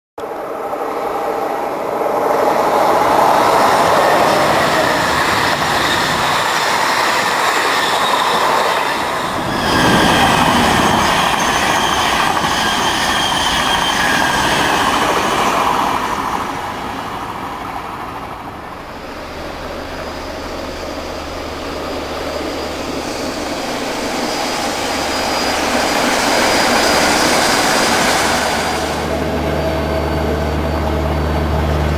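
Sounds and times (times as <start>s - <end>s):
high-speed train passing: 0.2s - 31.9s
steam locomotive approaching: 0.2s - 31.9s.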